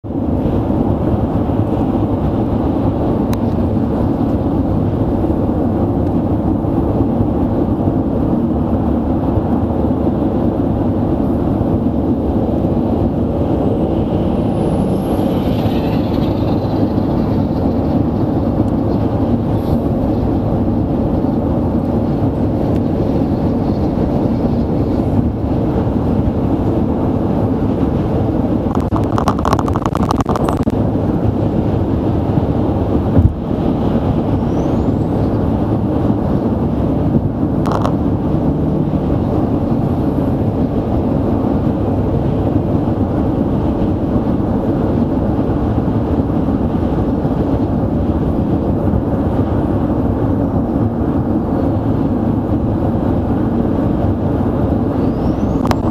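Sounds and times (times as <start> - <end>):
car engine: 0.0 - 55.9
tyre roar on pavement: 0.0 - 55.9
wind noise: 0.0 - 55.9.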